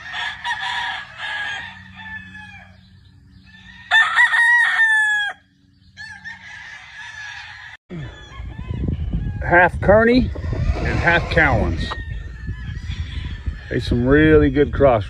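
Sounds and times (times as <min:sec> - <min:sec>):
roosters crowing: 0:00.0 - 0:14.4.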